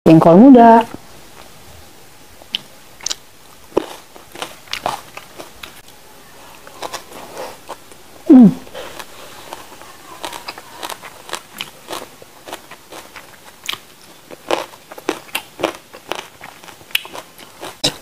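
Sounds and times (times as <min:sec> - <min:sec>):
crisp crunchy chewing: 0:02.4 - 0:08.0, 0:08.6 - 0:18.0.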